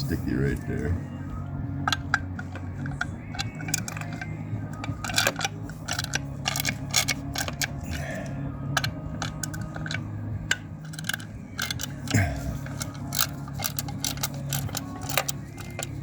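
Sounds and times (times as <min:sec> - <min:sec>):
low hum: 0:00.0 - 0:16.0
hand tool clicking on screws: 0:01.8 - 0:16.0.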